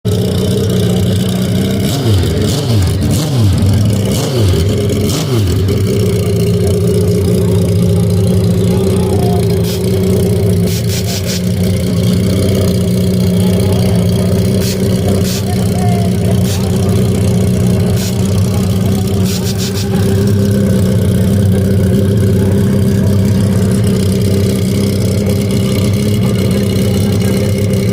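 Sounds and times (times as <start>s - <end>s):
motorcycle engine idling and revving: 0.0s - 27.9s.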